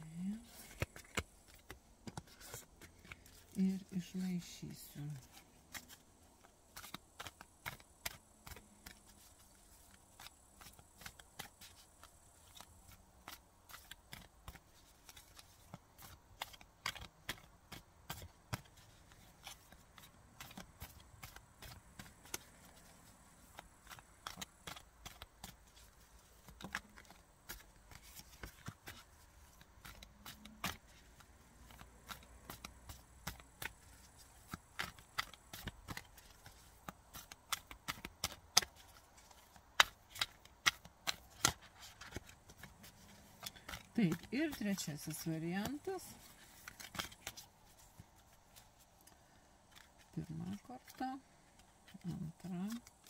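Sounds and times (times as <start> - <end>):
cards being shuffled: 0.2 - 53.0.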